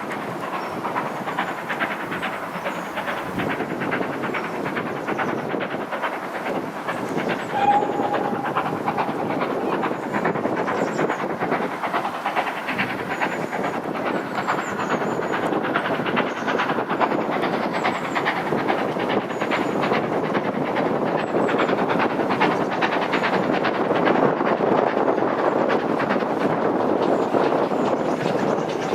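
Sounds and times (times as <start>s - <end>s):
steam train wheels clattering on rail: 0.0s - 28.9s.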